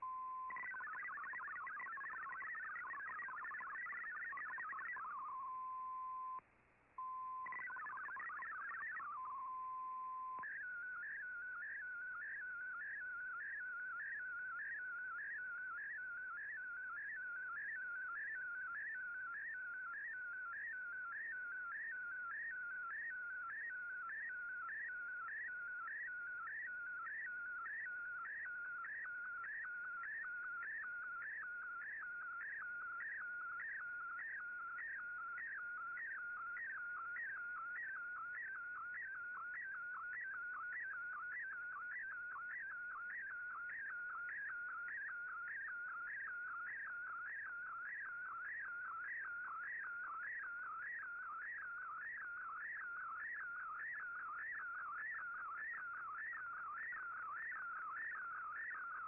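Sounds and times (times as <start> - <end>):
warbling pulsing radio tone: 0.0 - 6.4, 7.0 - 59.0.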